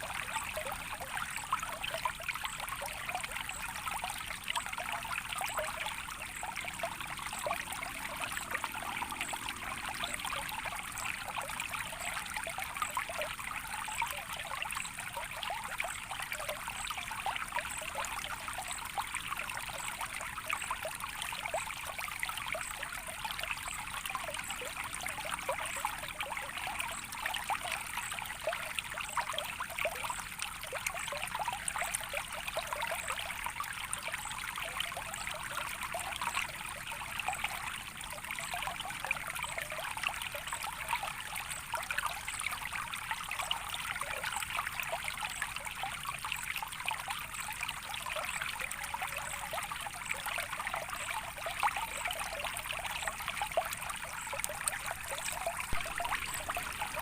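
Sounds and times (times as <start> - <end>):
small water splashes and gurgles: 0.0 - 57.0
water flowing and trickling: 0.0 - 57.0.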